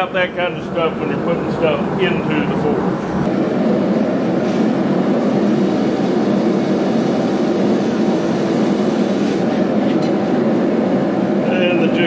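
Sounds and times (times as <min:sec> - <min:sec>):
forge burners roaring: 0:00.0 - 0:12.0.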